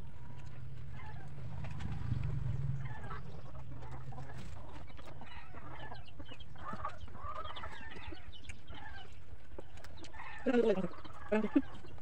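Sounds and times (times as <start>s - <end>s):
steady low hum: 0.0s - 11.3s
chickens clucking: 0.0s - 12.0s.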